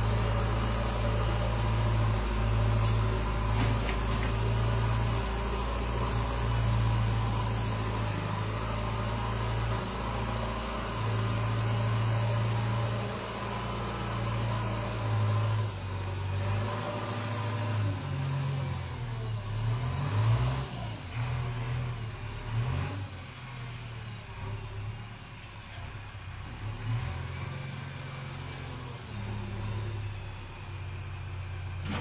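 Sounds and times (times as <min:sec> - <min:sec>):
diesel engine running and revving: 0:00.0 - 0:32.0.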